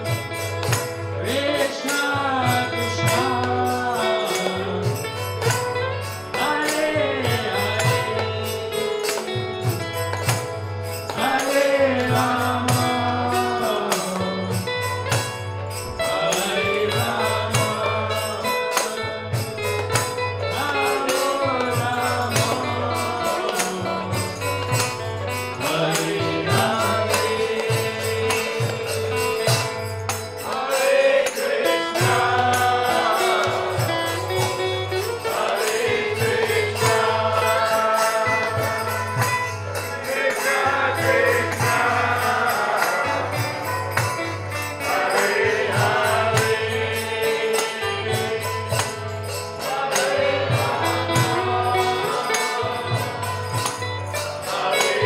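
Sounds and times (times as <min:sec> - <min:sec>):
jingling hand percussion: 0:00.0 - 0:55.0
group singing a chant: 0:01.2 - 0:05.6, 0:06.3 - 0:15.2, 0:15.9 - 0:55.0.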